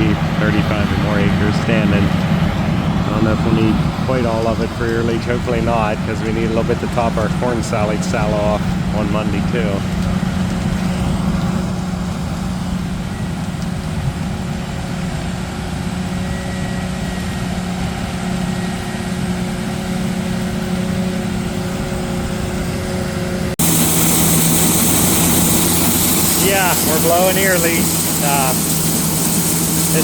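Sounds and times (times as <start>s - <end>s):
hissy machine noise: 0.0s - 17.4s, 19.8s - 30.0s
farm machinery engine running: 0.0s - 30.0s.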